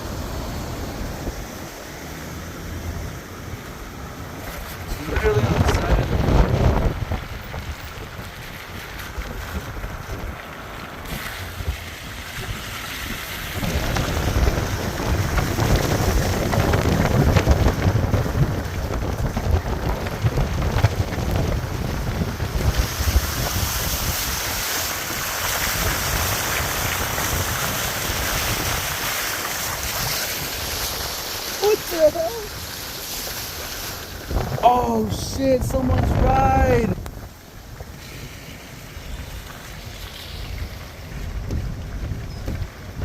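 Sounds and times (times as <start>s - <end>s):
heavy rain: 0.0s - 43.0s
wind rumbling on microphone: 0.0s - 43.0s.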